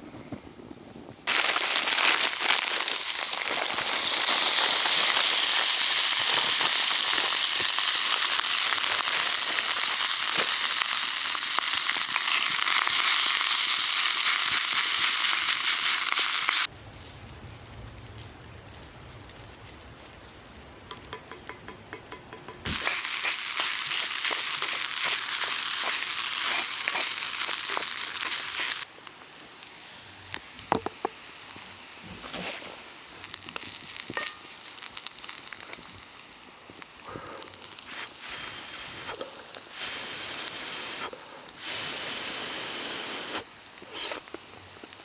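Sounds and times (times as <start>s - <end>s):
crackling: 0.0s - 21.1s, 22.7s - 45.0s
rice sizzling in hot oil: 1.1s - 16.7s, 22.7s - 45.0s.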